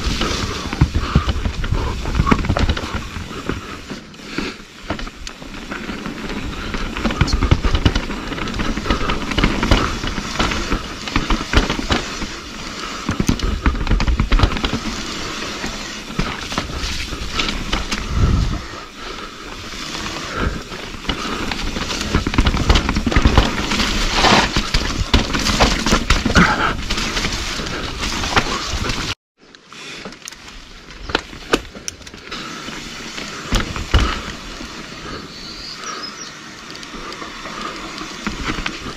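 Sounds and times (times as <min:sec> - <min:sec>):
bike rattling: 0:00.0 - 0:38.9
tyres crackling over dirt and rocks: 0:00.0 - 0:38.9.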